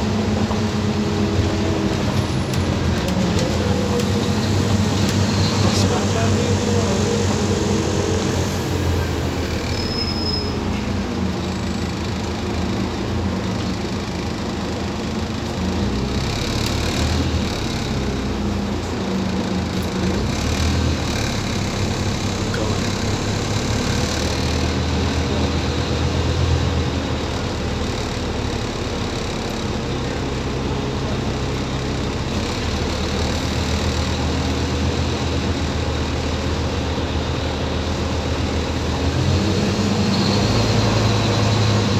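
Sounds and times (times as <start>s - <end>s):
bus engine drone: 0.0s - 41.9s
road rumble: 0.0s - 41.9s.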